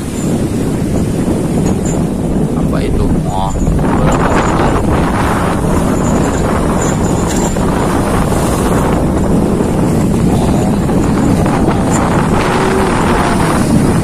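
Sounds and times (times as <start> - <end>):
ship engine rumble: 0.0 - 14.0
wind buffeting microphone: 0.0 - 14.0.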